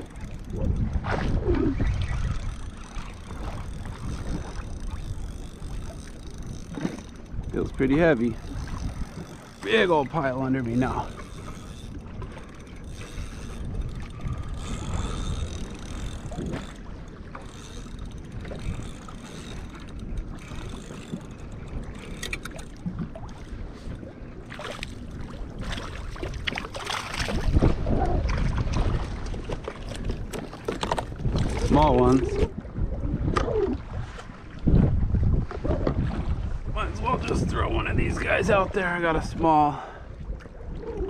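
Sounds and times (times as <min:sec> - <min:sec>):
water moving around kayak: 0:00.0 - 0:41.0
wind on microphone: 0:00.0 - 0:41.0.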